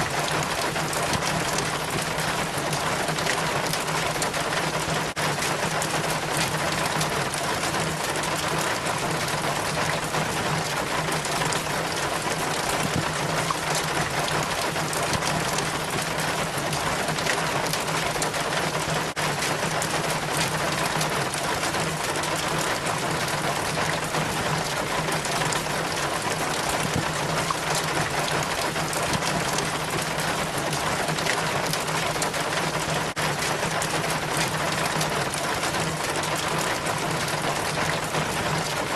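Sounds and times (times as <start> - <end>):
water trickling down rain chain: 0.0 - 38.9.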